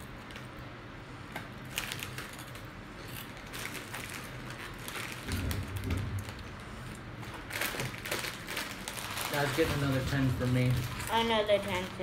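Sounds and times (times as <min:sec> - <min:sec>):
foil snack bag crinkling: 0:01.6 - 0:12.0.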